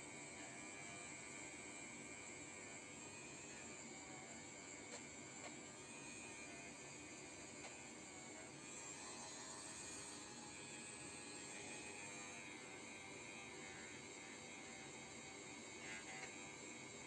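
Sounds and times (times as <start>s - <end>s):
faint hiss and hum: 0.0s - 17.0s.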